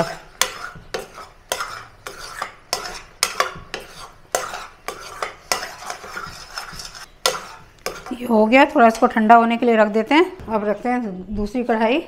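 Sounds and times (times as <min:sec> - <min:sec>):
utensil scraping a pan: 0:00.0 - 0:10.1.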